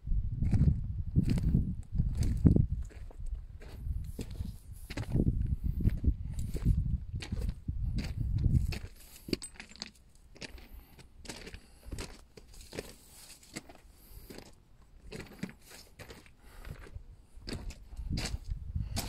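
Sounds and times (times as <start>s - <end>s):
footsteps on gravel: 0.5s - 19.0s.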